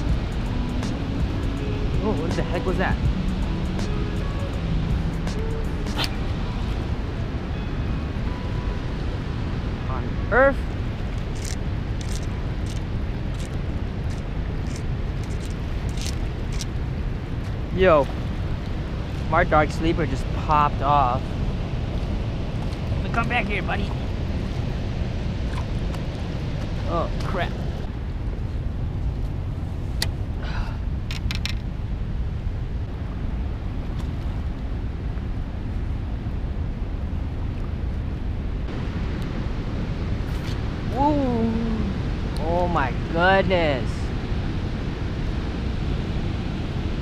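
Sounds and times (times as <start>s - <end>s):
river water rushing: 0.0s - 30.4s, 32.0s - 47.0s
wind on microphone: 0.0s - 47.0s.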